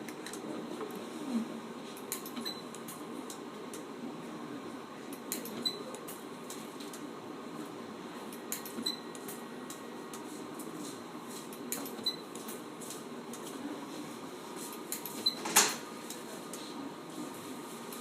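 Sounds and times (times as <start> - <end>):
steady machine hum: 0.0 - 15.2.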